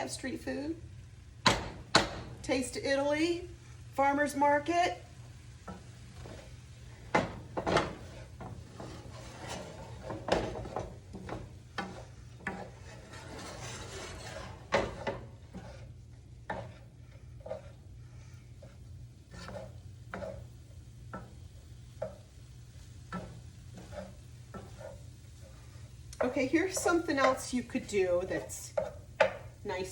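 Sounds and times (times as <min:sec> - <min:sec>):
spatula scraping in a pan: 0:00.0 - 0:29.9.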